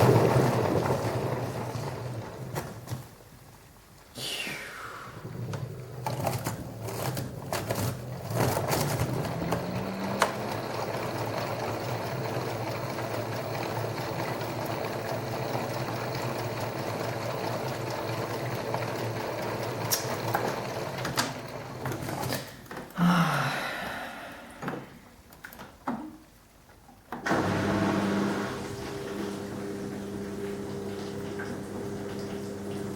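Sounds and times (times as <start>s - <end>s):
washing machine spinning rattle: 0.0s - 3.4s, 5.2s - 22.6s, 27.3s - 32.9s.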